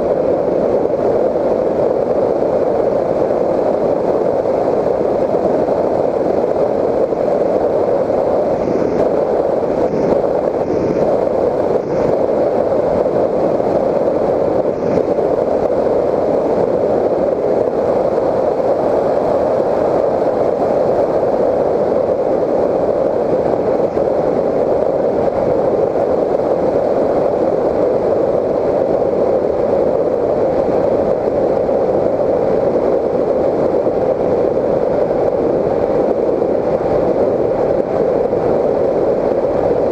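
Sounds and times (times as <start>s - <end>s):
muffled airflow rush: 0.0s - 39.9s.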